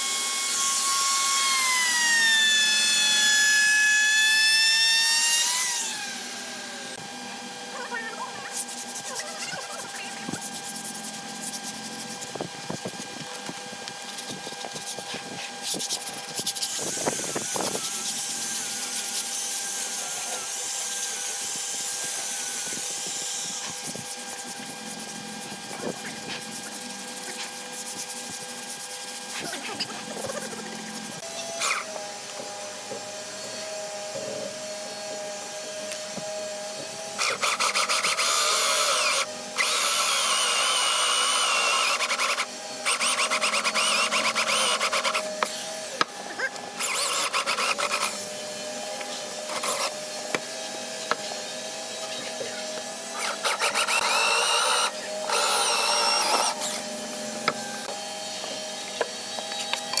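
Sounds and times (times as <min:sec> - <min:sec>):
power tool whining on wood: 0:00.0 - 1:00.0.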